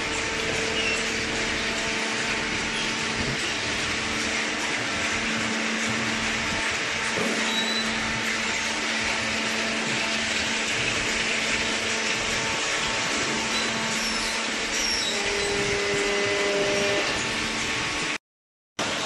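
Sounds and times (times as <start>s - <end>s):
machinery whirring: 0.0s - 18.2s
steady machine tone: 0.0s - 18.2s.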